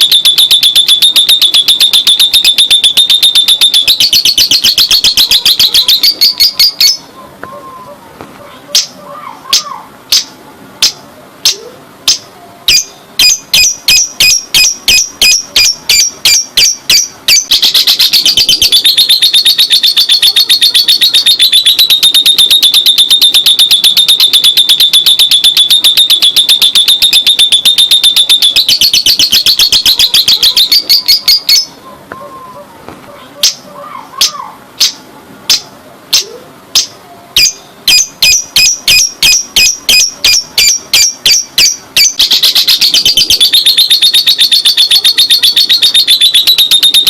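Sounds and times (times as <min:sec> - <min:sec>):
lovebird chirping and trilling: 0:00.0 - 0:08.0, 0:08.7 - 0:32.7, 0:33.4 - 0:47.0.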